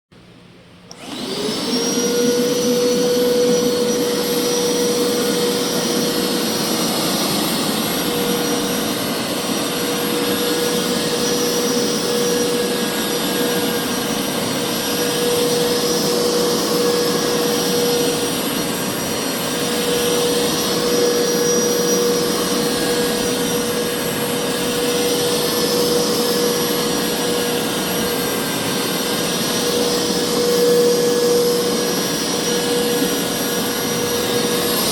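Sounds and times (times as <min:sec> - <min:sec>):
carpet cleaner motor whining: 0:00.9 - 0:34.9.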